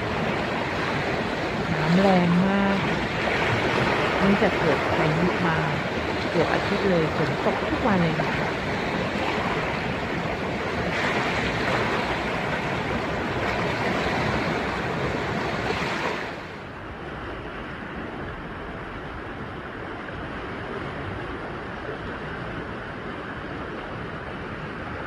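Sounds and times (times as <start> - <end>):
rushing floodwater: 0.0 - 25.0.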